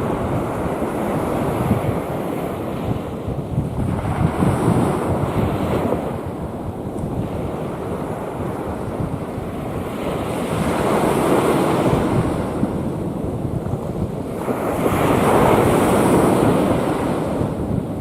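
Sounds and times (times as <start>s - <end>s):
sea waves washing in: 0.0s - 18.0s
wind buffeting microphone: 0.0s - 18.0s.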